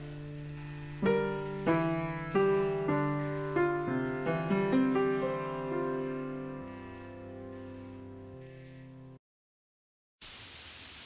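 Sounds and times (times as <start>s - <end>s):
slow piano music: 0.0s - 9.2s.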